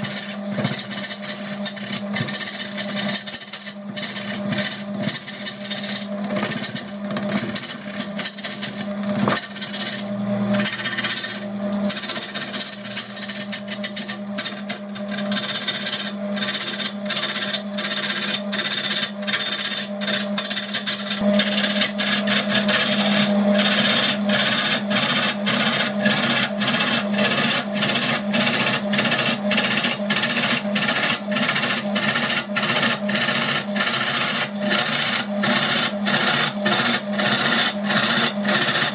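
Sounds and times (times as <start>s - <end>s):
gouge cutting wood on lathe: 0.0s - 38.9s
lathe motor hum: 0.0s - 38.9s.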